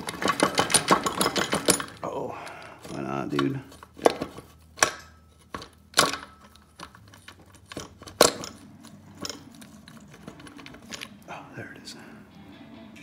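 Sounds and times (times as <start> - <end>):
sharp knocks of engine parts: 0.0 - 11.2.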